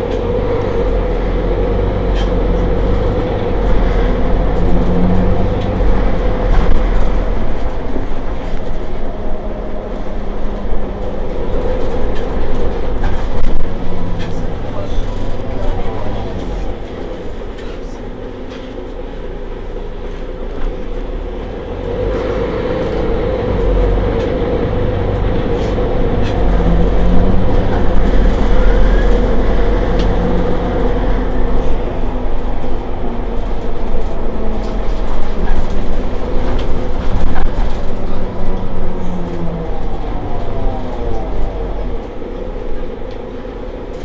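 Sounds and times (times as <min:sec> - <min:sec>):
bus engine idling: 0:00.0 - 0:44.0.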